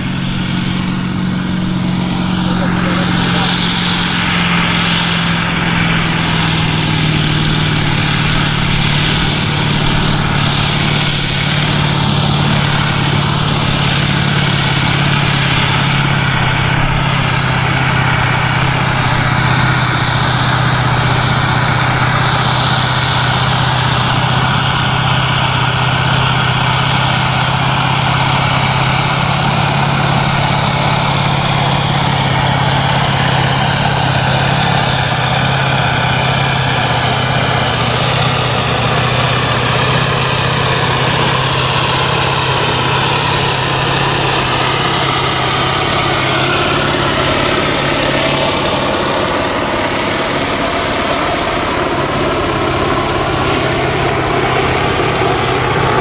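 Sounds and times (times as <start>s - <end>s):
tractor diesel engine under full load: 0.0s - 56.0s.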